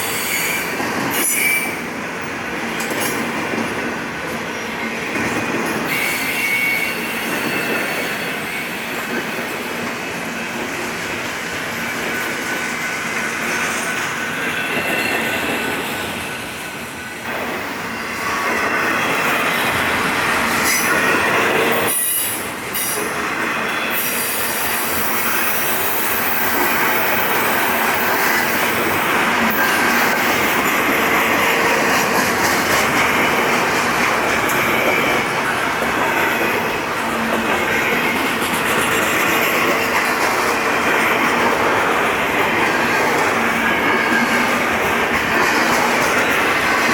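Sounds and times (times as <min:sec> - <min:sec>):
train wheels clacking on rails: 0:00.0 - 0:46.9
train wheels squealing: 0:00.0 - 0:46.9.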